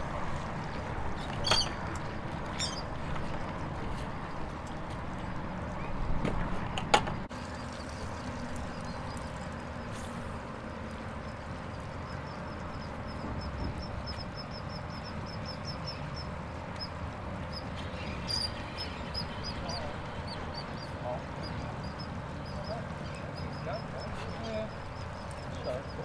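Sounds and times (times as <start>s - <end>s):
open water noise: 0.0s - 26.0s
wind: 0.0s - 26.0s.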